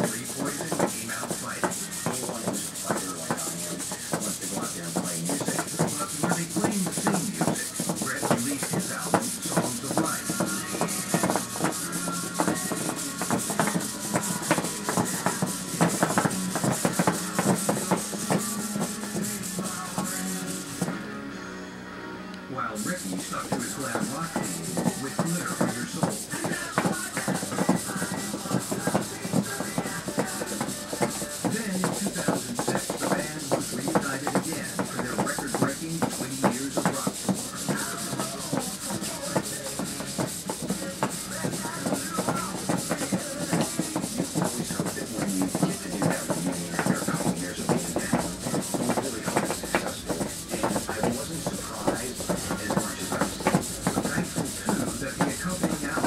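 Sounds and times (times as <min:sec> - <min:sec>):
robot feet tapping on wood: 0:00.0 - 0:21.0, 0:22.8 - 0:56.0.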